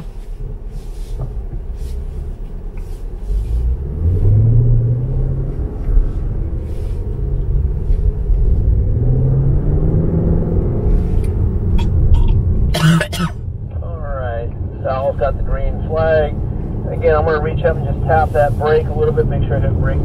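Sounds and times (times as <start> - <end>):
car engine accelerating: 0.0 - 20.0
low road rumble: 0.0 - 20.0.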